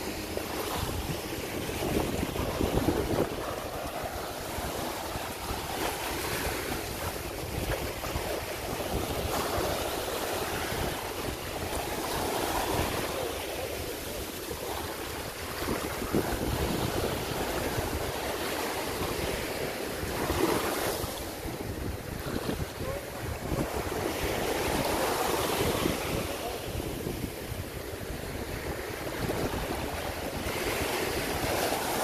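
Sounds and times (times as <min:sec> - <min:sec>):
sea surf breaking on beach: 0:00.0 - 0:32.0
wind rumbling on microphone: 0:00.0 - 0:32.0.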